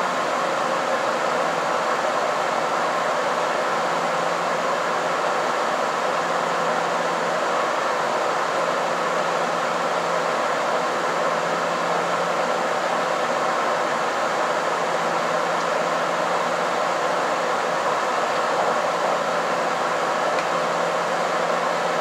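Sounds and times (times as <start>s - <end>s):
train wheel and air noise: 0.0s - 22.0s.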